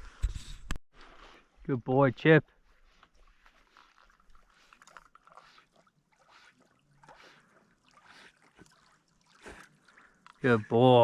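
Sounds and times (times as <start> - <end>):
water splashing and dribbling: 0.1 - 11.0.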